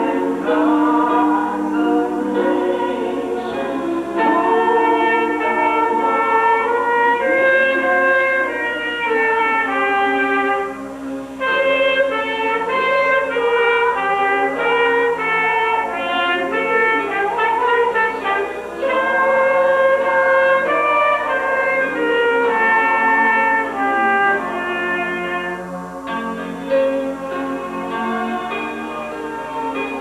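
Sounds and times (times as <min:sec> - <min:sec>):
brass instrumental music: 0:00.0 - 0:30.0.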